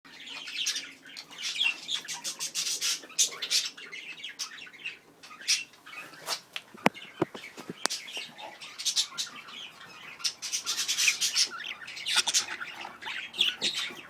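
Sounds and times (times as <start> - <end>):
budgerigars chattering: 0.1 - 14.0.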